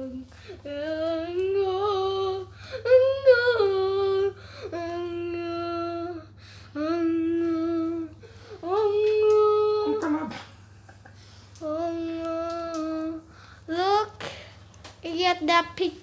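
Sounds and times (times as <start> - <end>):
child singing long notes: 0.0 - 10.3, 11.6 - 14.2.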